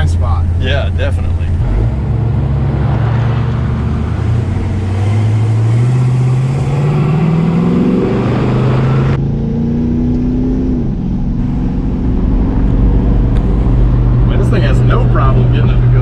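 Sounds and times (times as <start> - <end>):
engine accelerating hard: 0.0 - 16.0.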